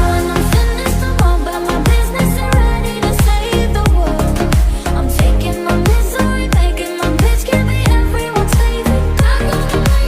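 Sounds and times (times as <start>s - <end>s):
driving beat: 0.0s - 10.0s.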